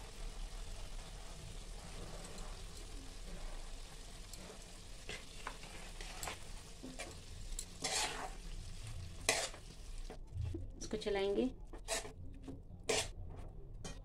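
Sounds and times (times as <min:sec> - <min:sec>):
vegetables frying in a pan: 0:00.0 - 0:12.2
spatula scraping a pan: 0:00.2 - 0:10.2, 0:11.7 - 0:14.0.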